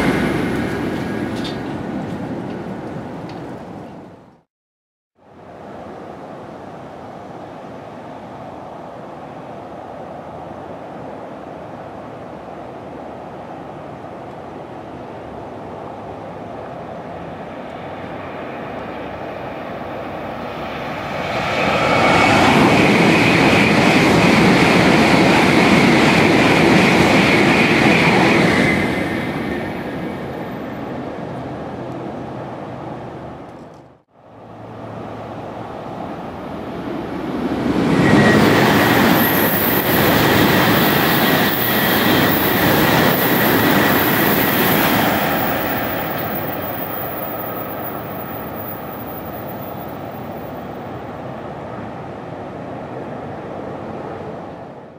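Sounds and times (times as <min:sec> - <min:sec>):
high-speed train passing: 0:00.0 - 0:04.4, 0:05.2 - 0:54.9.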